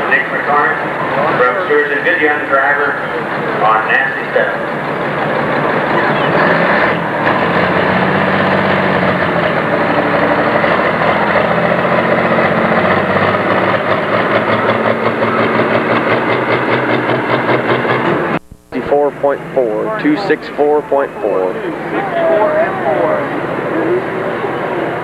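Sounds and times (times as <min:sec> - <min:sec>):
diesel engine running flat out: 0:00.0 - 0:25.0.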